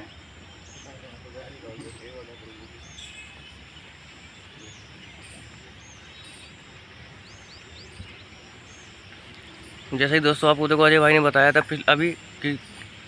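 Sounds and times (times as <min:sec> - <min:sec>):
background hiss: 0:00.0 - 0:13.0
birds chirping: 0:00.0 - 0:13.0.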